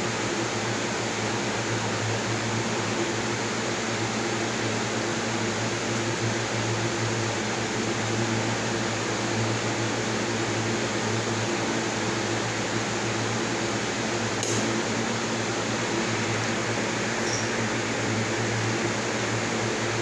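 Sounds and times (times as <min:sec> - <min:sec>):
steady low hum with hiss: 0:00.0 - 0:20.0.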